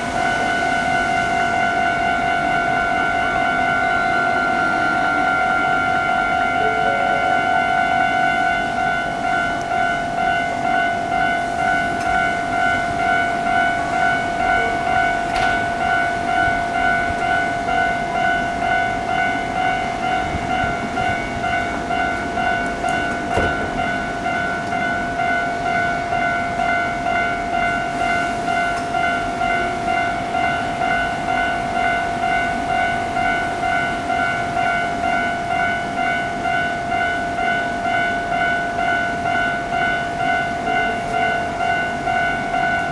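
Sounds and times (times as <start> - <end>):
level crossing alarm bell: 0.0 - 42.9
train passing rumble: 0.0 - 42.9.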